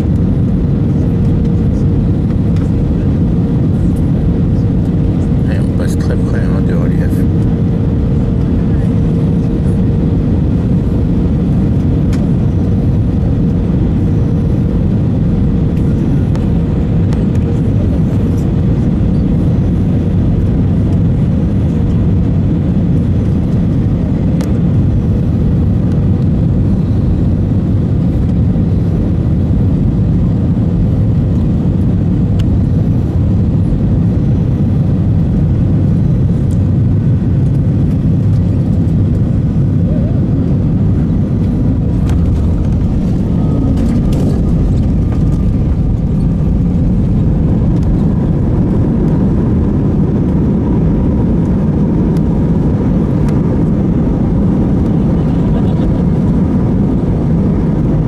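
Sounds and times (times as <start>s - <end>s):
jet engine and airflow rumble: 0.0s - 58.0s.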